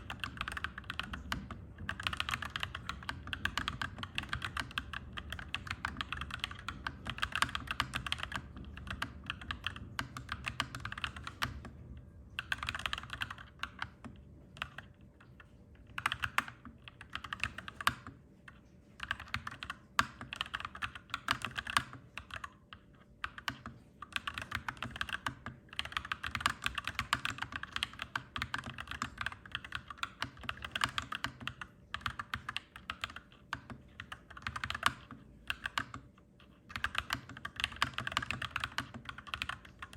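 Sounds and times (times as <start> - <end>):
mechanical keyboard typing: 0.0 - 11.8, 12.4 - 39.9
low background hum: 0.0 - 39.9.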